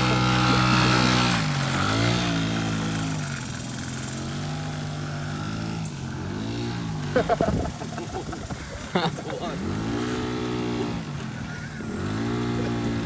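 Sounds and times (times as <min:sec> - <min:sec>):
scooter two-stroke engine running: 0:00.0 - 0:13.0.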